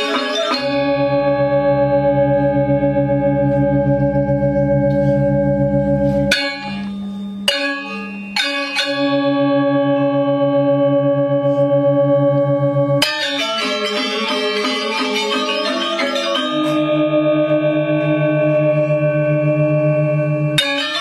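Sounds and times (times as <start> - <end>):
bronze metallophone tones: 0.0 - 21.0
ringing gong: 0.0 - 21.0.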